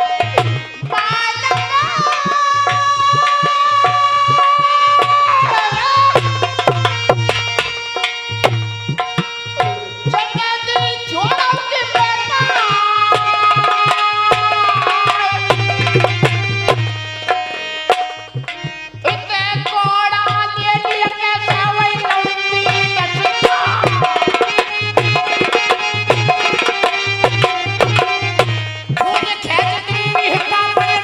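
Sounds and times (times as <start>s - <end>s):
hand drum beating: 0.0s - 31.0s.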